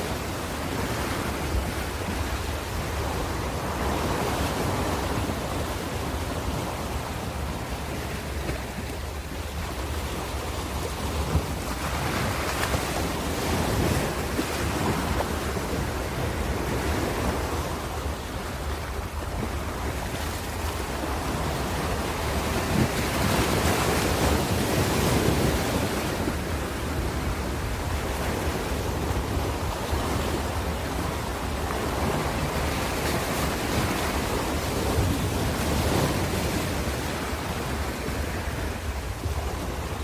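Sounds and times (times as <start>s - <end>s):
ocean waves breaking: 0.0s - 40.0s
wind on microphone: 0.0s - 40.0s.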